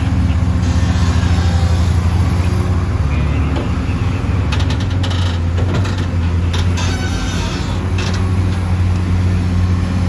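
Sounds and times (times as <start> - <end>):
heavy diesel engine droning: 0.0 - 10.0.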